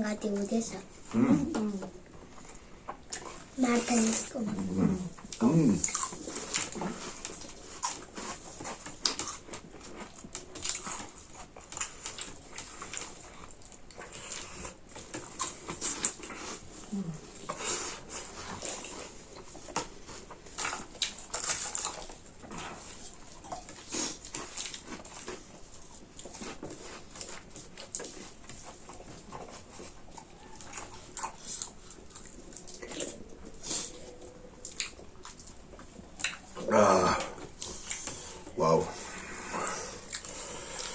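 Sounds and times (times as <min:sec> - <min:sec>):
wet chewing and lip-smacking: 0:00.3 - 0:40.9.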